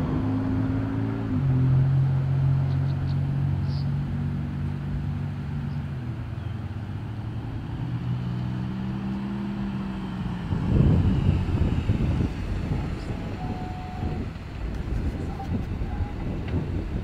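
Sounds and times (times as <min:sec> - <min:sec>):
car engine driving up: 0:00.0 - 0:17.0.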